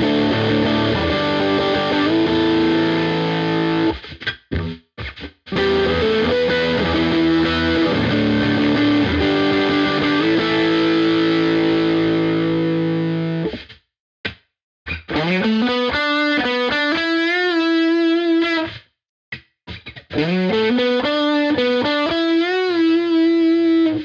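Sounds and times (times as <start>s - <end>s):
distorted electric guitar chords: 0.0s - 13.6s, 14.9s - 18.8s, 19.7s - 24.0s.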